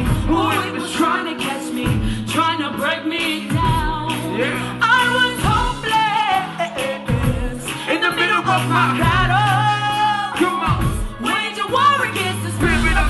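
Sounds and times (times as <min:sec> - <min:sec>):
live band playing pop song: 0:00.0 - 0:13.0
woman singing: 0:00.0 - 0:13.0.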